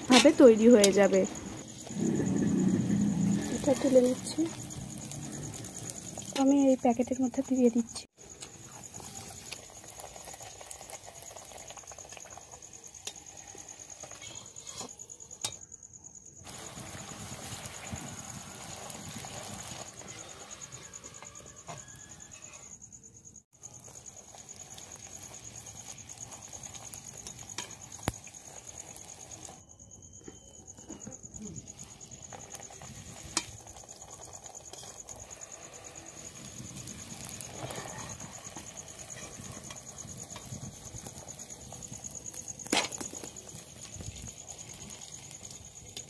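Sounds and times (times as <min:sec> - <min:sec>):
frying in hot oil sizzle: 0:00.0 - 0:15.7, 0:16.3 - 0:22.7, 0:23.5 - 0:46.0.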